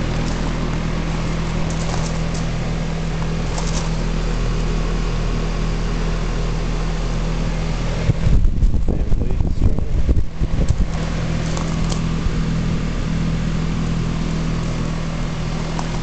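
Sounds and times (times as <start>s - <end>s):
fan noise: 0.0s - 16.0s
heat pump compressor hum: 0.0s - 16.0s
uneven low rumble: 0.0s - 16.0s.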